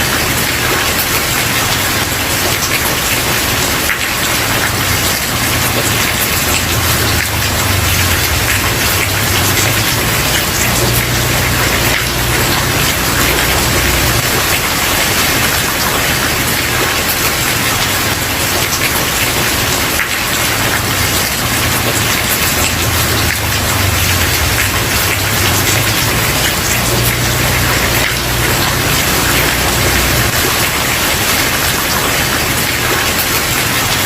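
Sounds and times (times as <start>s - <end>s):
rain on a wooden porch: 0.0s - 34.0s.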